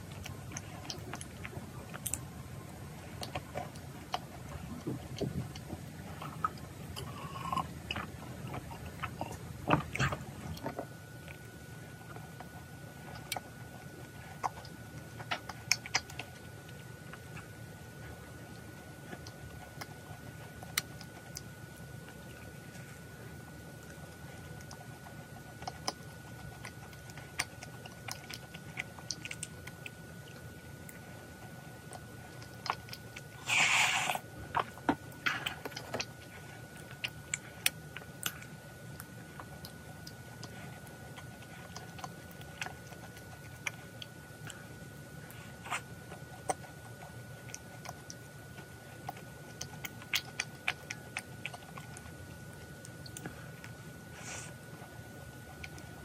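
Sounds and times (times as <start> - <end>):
chewing macarons: 0.0 - 56.0.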